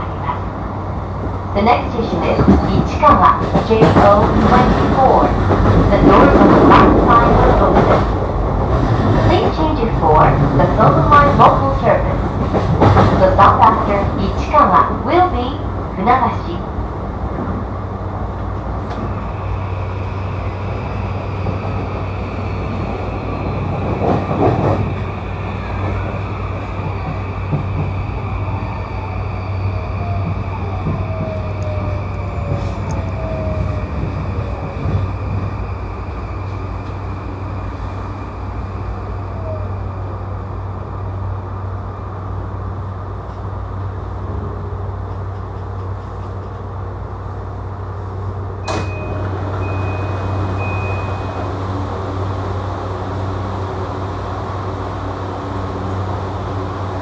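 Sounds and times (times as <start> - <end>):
train interior hum: 0.0 - 57.0
train rumble: 0.0 - 57.0.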